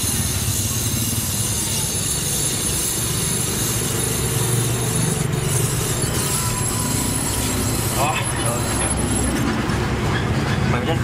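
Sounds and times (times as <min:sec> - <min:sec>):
torch flame burning: 0:00.0 - 0:09.4.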